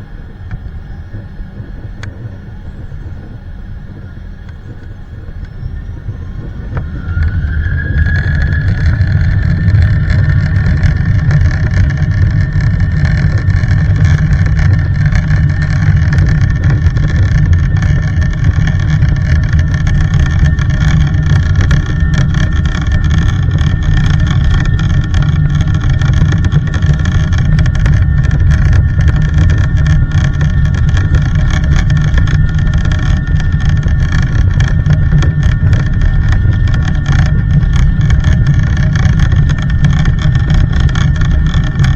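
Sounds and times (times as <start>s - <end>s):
jet engine rumble: 0.0s - 41.9s
jet engine whine: 0.0s - 41.9s.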